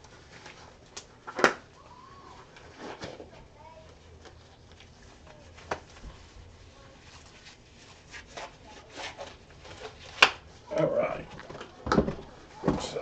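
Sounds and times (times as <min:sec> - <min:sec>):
soft rustling of boxes: 0:00.0 - 0:13.0.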